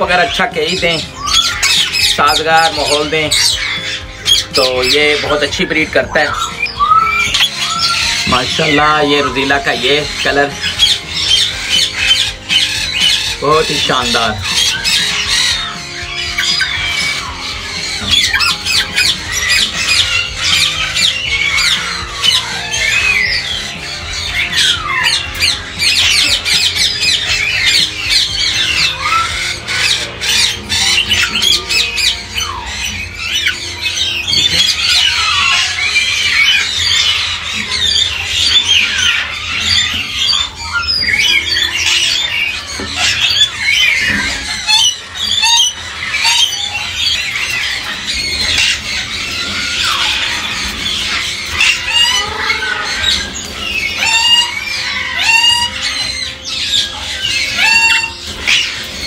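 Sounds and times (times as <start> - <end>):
parrots squawking and chattering: 0.0 - 59.0.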